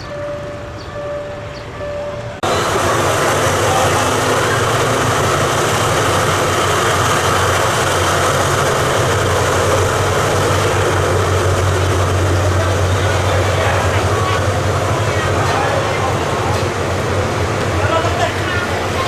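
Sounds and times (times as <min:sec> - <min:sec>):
train engine hum: 0:00.0 - 0:19.0
train rushing noise: 0:00.0 - 0:19.0.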